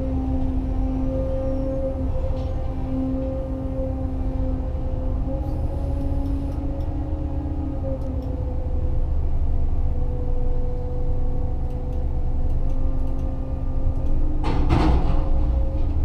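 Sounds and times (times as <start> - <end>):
crane machinery droning: 0.0 - 16.0.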